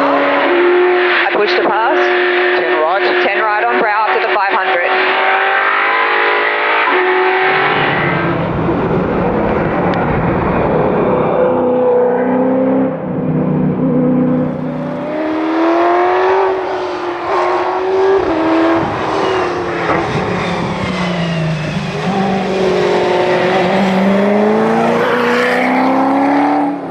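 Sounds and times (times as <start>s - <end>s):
racing car engine revving: 0.0s - 26.9s.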